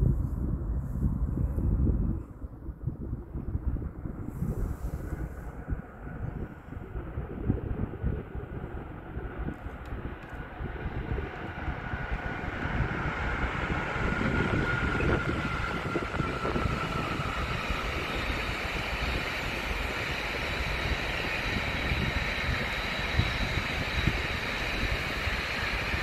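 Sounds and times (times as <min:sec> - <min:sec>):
freight train wheels rumbling on rail: 0:03.6 - 0:26.0
faint high whine: 0:03.7 - 0:26.0.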